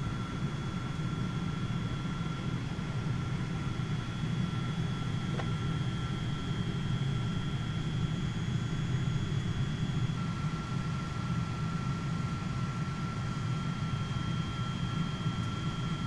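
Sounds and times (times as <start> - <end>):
low rumble of air and machinery: 0.0 - 16.0
thin steady whines: 0.0 - 16.0.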